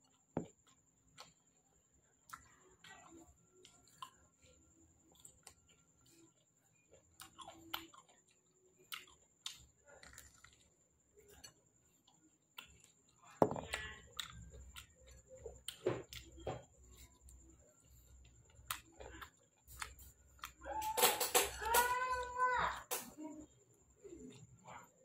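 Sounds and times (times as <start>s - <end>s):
chewing and lip-smacking: 0.0s - 20.7s.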